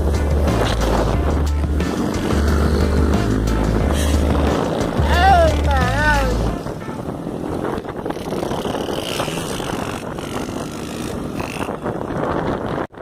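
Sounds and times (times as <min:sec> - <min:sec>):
motorcycles engines and road noise: 0:00.0 - 0:13.0.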